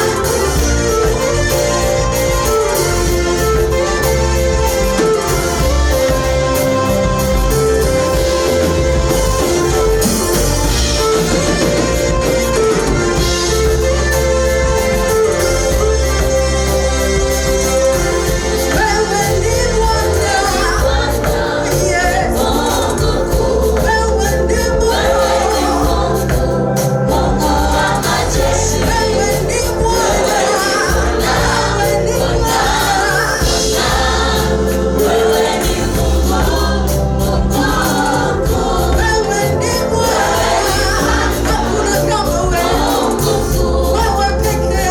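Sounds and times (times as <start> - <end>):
gospel choir singing: 0.0 - 44.9
instrumental backing with bass line: 0.0 - 44.9.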